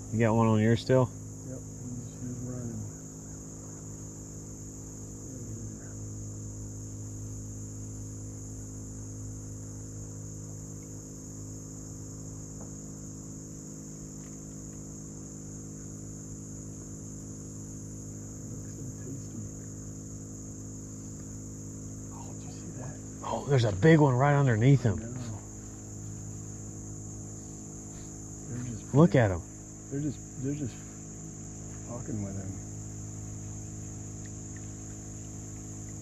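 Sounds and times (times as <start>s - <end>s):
insects chorus: 0.0s - 36.0s
low hum: 0.0s - 36.0s.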